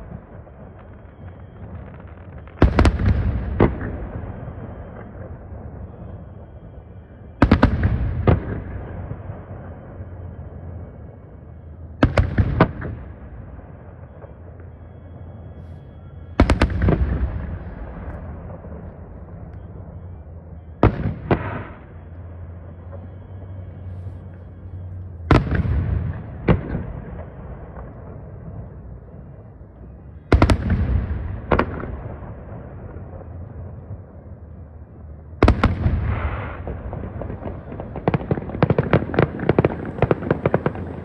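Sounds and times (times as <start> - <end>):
fireworks bursting: 0.0 - 34.0, 35.4 - 41.0
rumbling echo: 0.0 - 41.0.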